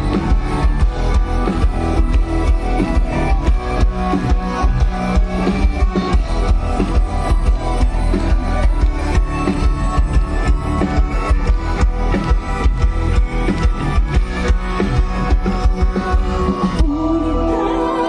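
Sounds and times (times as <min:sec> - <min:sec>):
drum kit beat: 0:00.0 - 0:17.2
rock band playing: 0:00.0 - 0:18.0.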